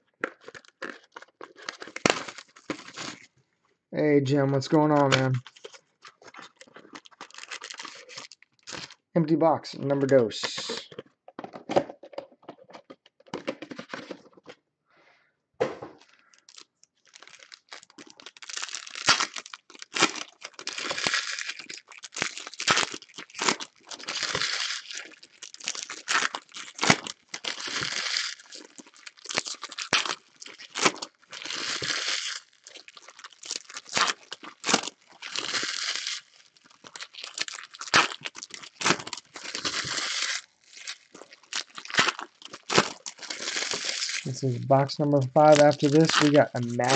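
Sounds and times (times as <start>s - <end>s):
foil wrappers tearing and crinkling: 0.2s - 3.3s, 4.8s - 9.1s, 10.0s - 11.0s, 16.3s - 44.4s, 45.2s - 46.9s.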